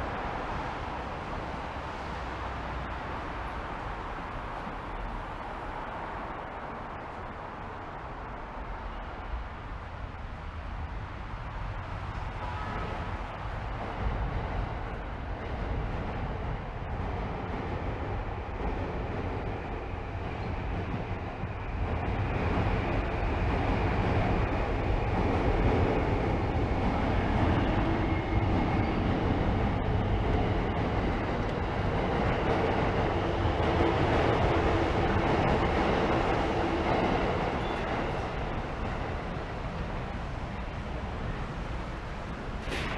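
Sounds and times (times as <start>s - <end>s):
city road traffic: 0.0s - 42.9s.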